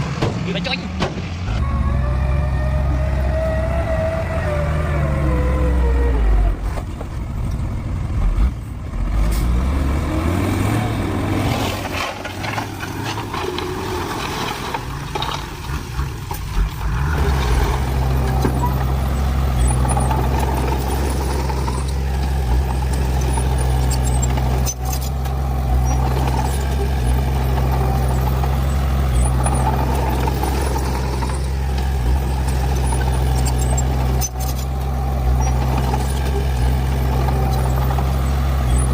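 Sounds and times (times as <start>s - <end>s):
heavy diesel engine working: 0.0s - 38.9s.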